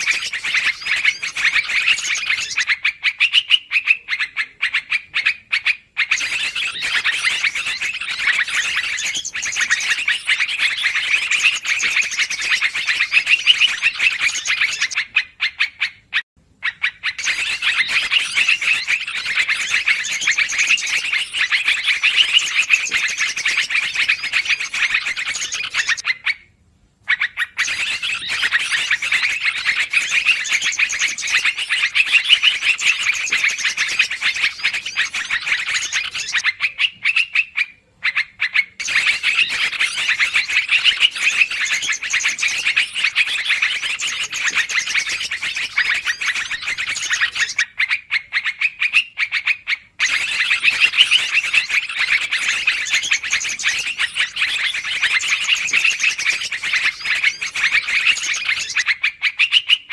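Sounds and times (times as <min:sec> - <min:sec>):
bird chattering rapidly: 0:00.0 - 0:26.4, 0:27.1 - 0:59.9.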